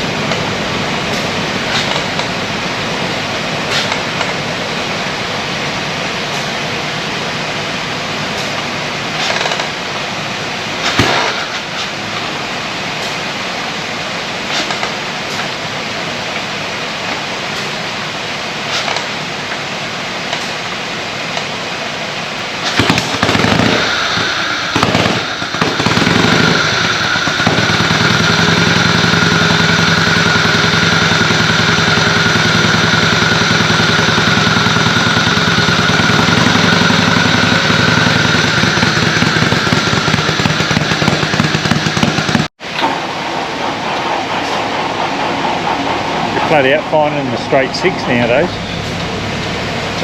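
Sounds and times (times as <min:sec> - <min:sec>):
old engine starting and running: 0:00.0 - 0:50.0.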